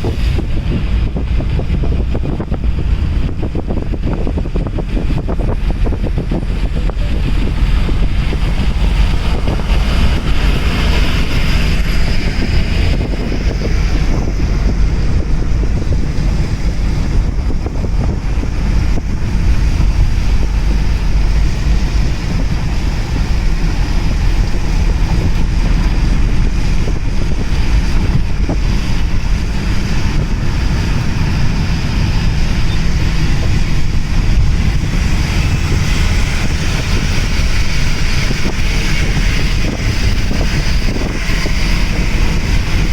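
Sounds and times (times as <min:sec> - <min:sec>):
car road noise rumble: 0:00.0 - 0:42.9
wind buffeting microphone: 0:00.0 - 0:42.9.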